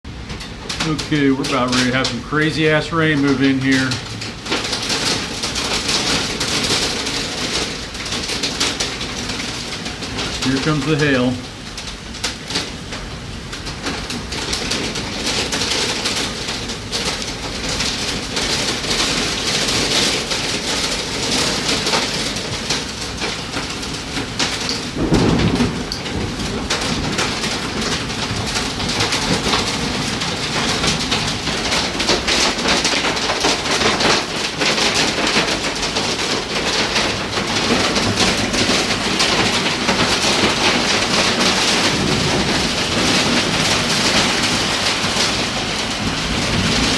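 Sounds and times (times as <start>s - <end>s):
heavy rain and hail pattering: 0.1s - 46.9s.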